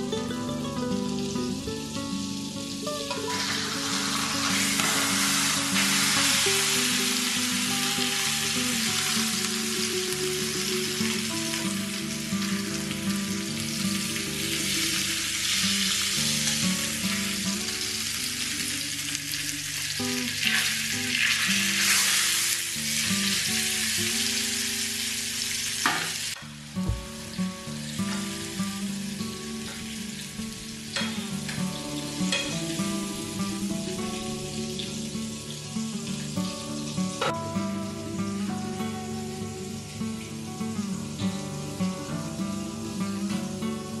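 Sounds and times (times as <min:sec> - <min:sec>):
soft background music: 0:00.0 - 0:25.8, 0:26.5 - 0:44.0
fish sizzling in hot oil: 0:00.8 - 0:44.0.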